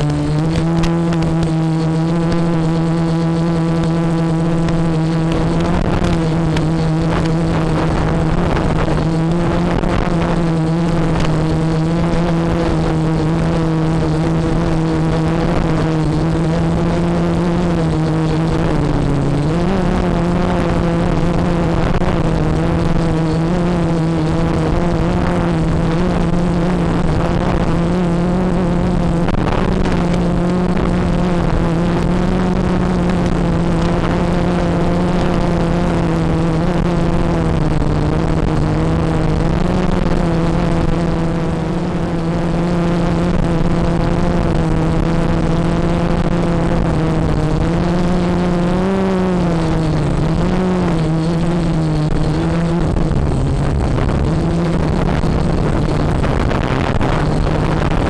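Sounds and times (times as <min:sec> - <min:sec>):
drone propellers humming: 0:00.0 - 0:58.0
wind on microphone: 0:00.0 - 0:58.0.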